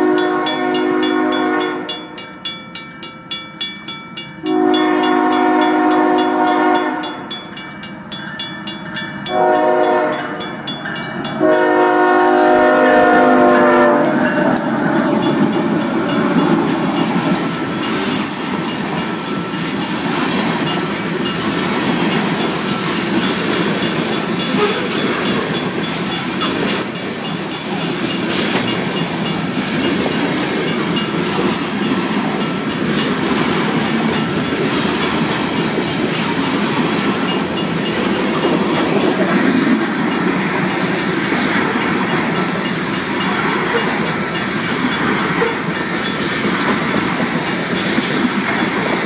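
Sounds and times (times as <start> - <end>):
crossing bells ringing: 0.0 - 48.3
diesel locomotive passing: 0.0 - 49.0
steel wheels clacking over rails: 0.0 - 49.0.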